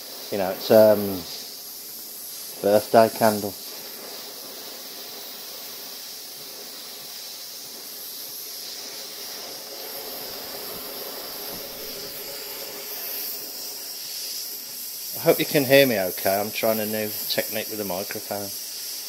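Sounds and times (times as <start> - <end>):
gas torch flame hissing: 0.0 - 19.0.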